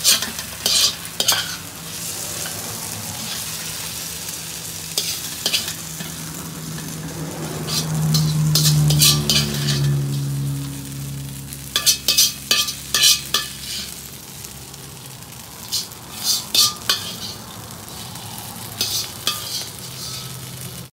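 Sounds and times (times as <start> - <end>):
metal spatula scraping a wok: 0.0 - 11.0, 11.7 - 14.4, 15.0 - 20.9
light sizzle: 0.0 - 20.9.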